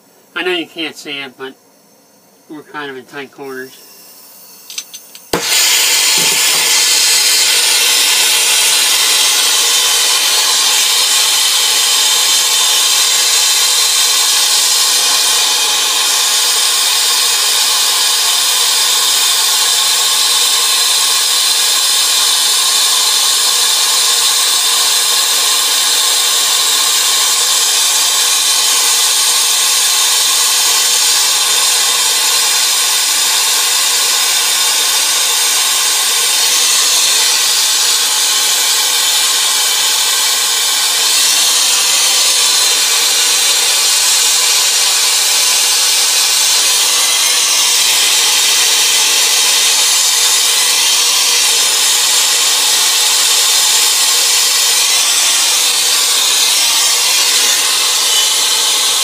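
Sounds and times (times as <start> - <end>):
torch flame hissing: 3.4 - 59.0.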